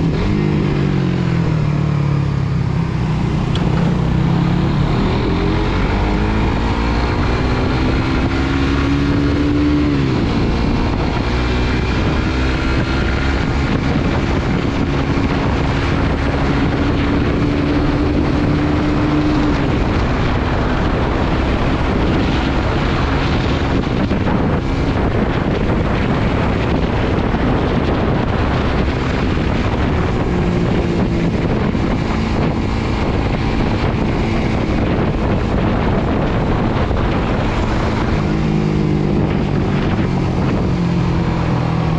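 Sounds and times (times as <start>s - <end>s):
motorcycle engine under way: 0.0s - 41.9s
wind noise on microphone: 0.0s - 41.9s.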